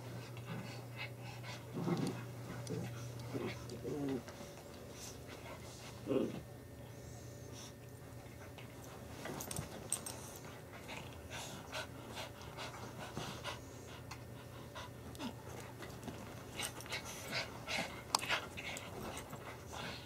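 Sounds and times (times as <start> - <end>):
dogs panting and huffing: 0.0 - 6.0, 8.4 - 20.0
small dogs play-fighting: 0.0 - 20.0.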